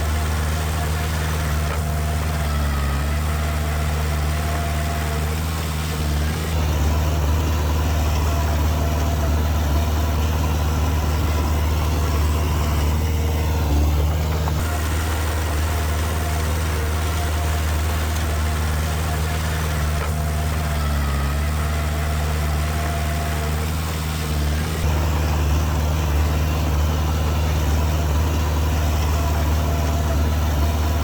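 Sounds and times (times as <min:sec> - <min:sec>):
diesel engine humming: 0:00.0 - 0:31.0.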